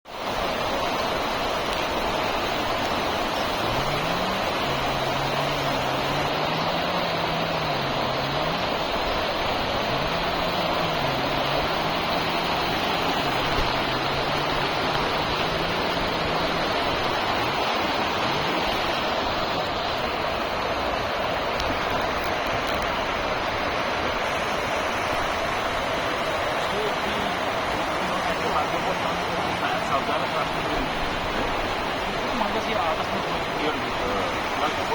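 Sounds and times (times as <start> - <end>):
stream rushing: 0.0 - 34.9.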